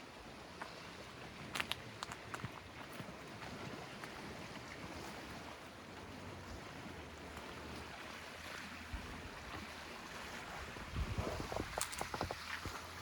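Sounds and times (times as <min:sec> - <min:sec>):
small lake waves washing: 0:00.0 - 0:13.0.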